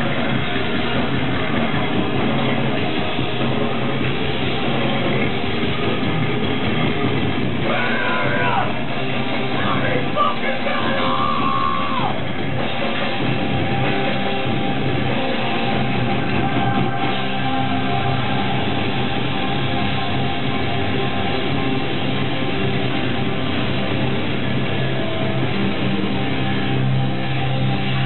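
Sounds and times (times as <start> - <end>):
heavy metal band playing: 0.0 - 28.0
pitch-bending guitar line: 0.0 - 28.0.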